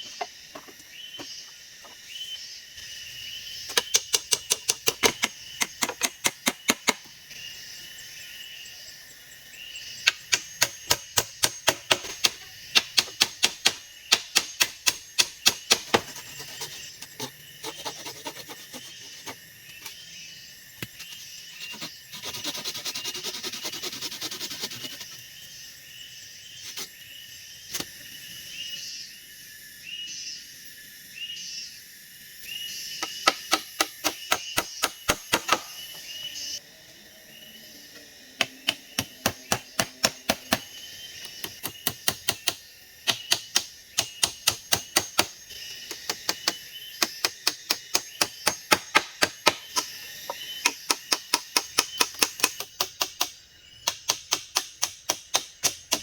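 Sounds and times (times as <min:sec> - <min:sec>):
high chirping of insects or birds: 0:00.0 - 0:56.0.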